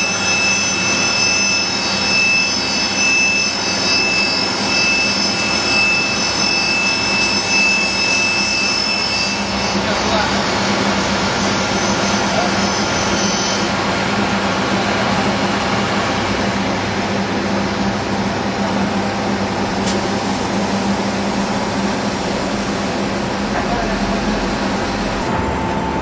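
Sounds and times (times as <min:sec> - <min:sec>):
high thin whine: 0:00.0 - 0:26.0
machine humming: 0:00.0 - 0:26.0.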